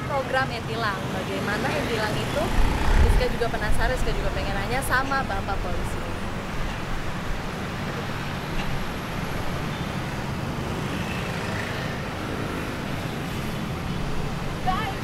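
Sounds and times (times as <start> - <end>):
car engines passing: 0.0 - 15.0
motorcycle engines passing: 0.0 - 15.0.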